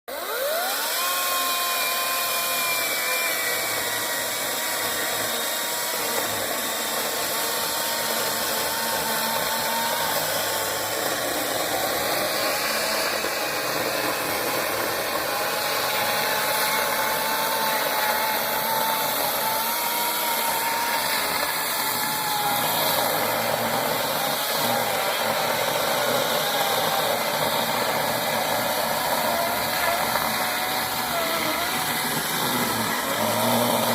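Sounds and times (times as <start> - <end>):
electric chainsaw cutting wood: 0.0 - 33.9.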